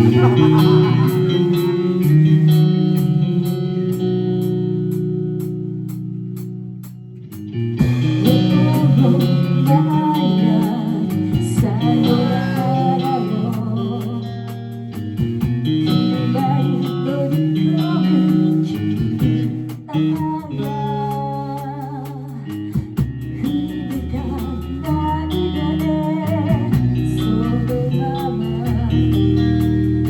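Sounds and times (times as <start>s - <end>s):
person singing: 0.0s - 4.0s, 8.2s - 14.6s, 15.8s - 29.8s
live band playing: 0.0s - 30.0s.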